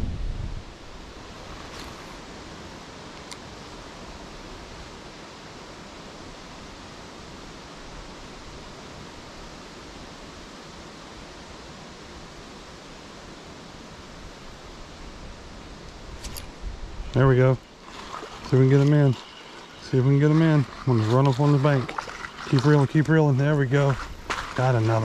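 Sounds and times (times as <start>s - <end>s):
flowing creek water: 0.7s - 25.0s.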